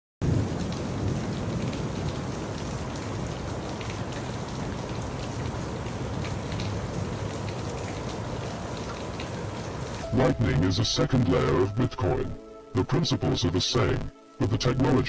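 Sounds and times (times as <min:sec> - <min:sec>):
heavy rain: 0:00.2 - 0:15.0
raindrops ticking: 0:00.2 - 0:15.0.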